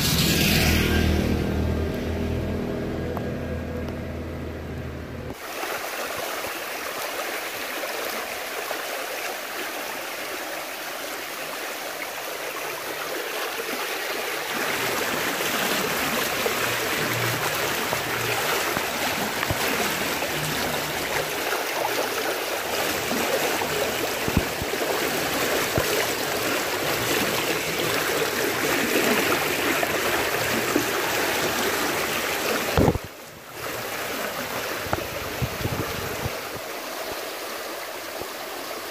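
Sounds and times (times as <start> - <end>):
rushing floodwater: 5.3 - 38.9.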